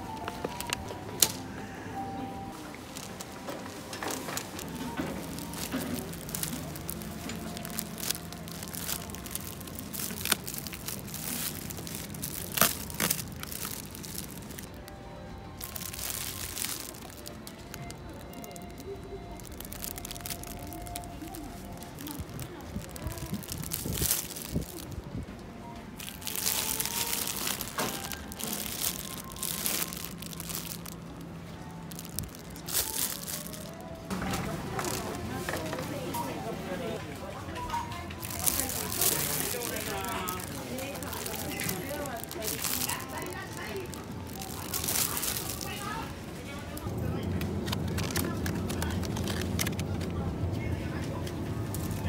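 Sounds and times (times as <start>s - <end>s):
plastic film crinkling: 0.0s - 1.4s, 2.6s - 50.3s, 50.9s - 52.0s.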